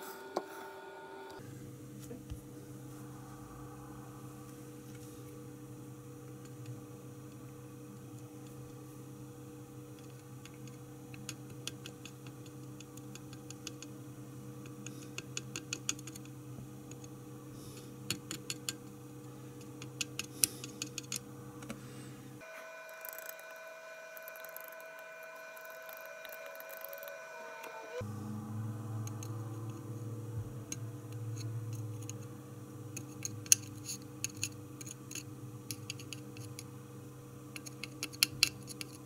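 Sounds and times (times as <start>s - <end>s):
low electrical hum: 0.0s - 39.0s.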